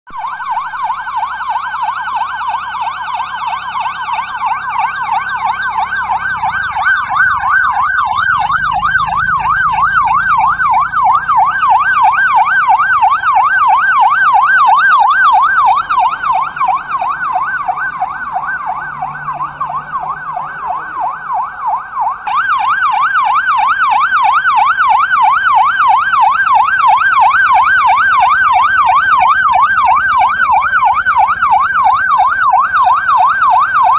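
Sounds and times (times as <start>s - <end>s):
police siren warbling: 0.1s - 33.9s.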